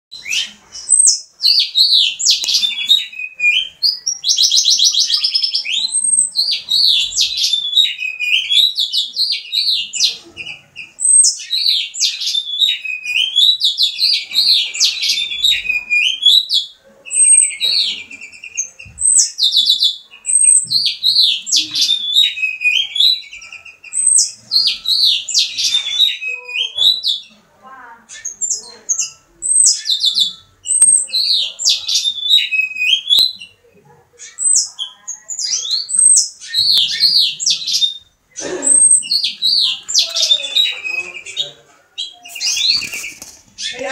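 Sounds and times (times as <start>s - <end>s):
finch singing warbles and chirps: 0.1s - 43.9s.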